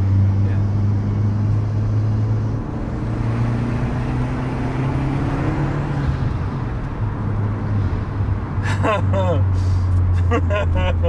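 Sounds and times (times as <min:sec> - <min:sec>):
car engine droning in cabin: 0:00.0 - 0:11.0
tyre and road noise: 0:00.0 - 0:11.0.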